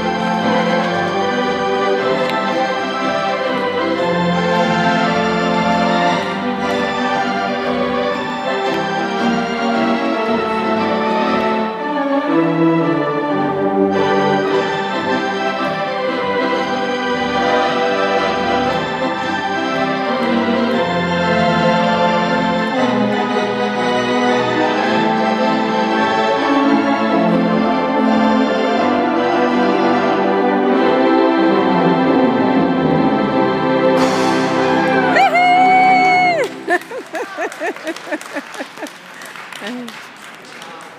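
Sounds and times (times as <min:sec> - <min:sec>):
organ playing chords: 0:00.0 - 0:39.6.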